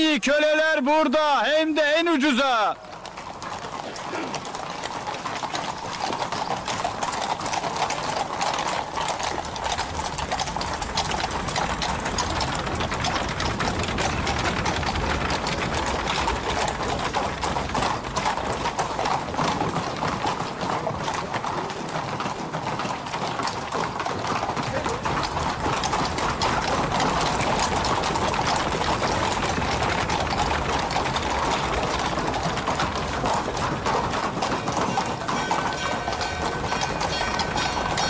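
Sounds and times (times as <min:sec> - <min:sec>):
horse hooves clopping on stone: 0:00.0 - 0:38.0.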